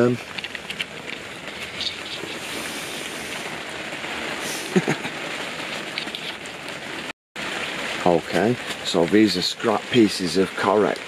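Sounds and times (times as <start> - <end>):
rain falling on a tent: 0.0 - 11.0.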